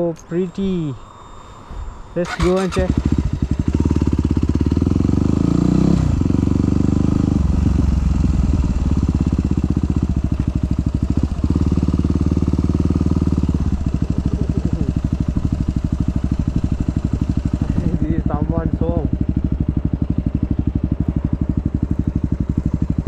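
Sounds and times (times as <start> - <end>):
motorcycle engine running: 0.3 - 23.0.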